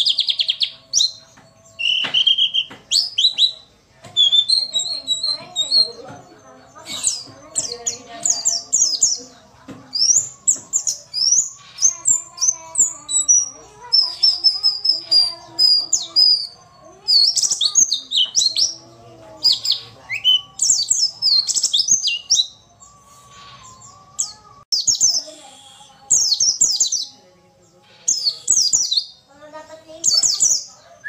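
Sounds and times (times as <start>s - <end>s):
bird chirping and trilling: 0.0s - 31.0s.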